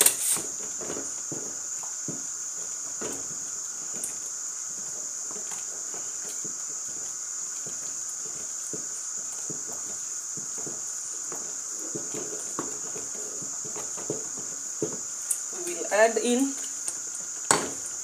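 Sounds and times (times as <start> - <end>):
steady high hiss: 0.0 - 18.0
wooden spoon stirring in pot: 0.0 - 18.0.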